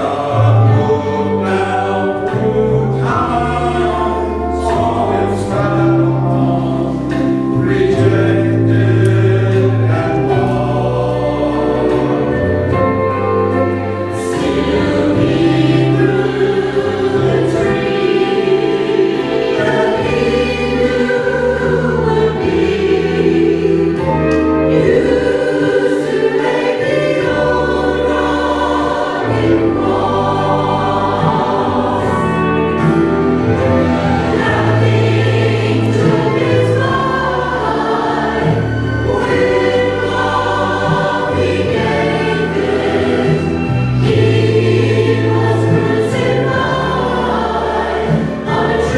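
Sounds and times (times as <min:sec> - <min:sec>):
choir singing in parts: 0:00.0 - 0:48.9.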